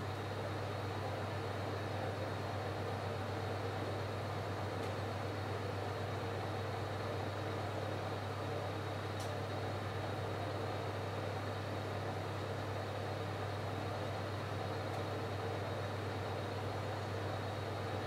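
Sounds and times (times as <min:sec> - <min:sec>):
electrical hum with hiss: 0:00.0 - 0:18.0.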